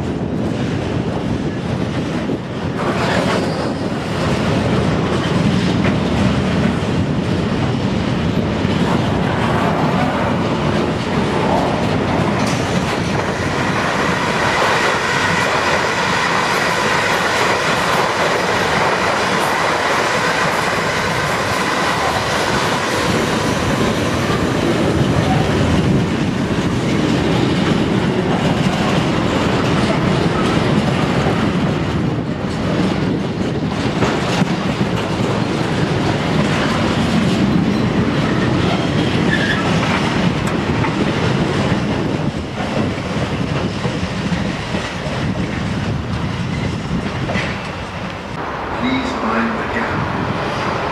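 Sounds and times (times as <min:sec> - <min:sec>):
train wheels clattering over rail joints: 0:00.0 - 0:48.2.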